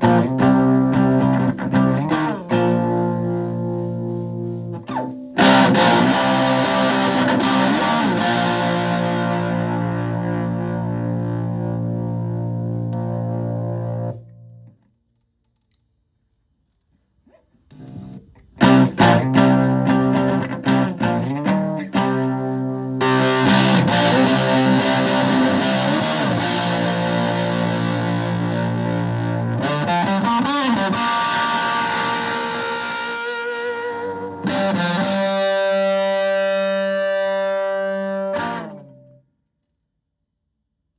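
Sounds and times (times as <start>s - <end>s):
electric guitar chords: 0.0s - 14.8s, 17.8s - 39.2s
quiet guitar notes: 0.0s - 14.8s, 17.7s - 39.2s.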